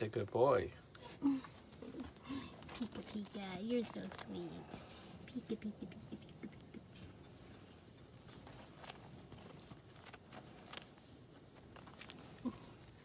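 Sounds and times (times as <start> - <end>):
faint small clicks and rustles: 0.9 - 13.0.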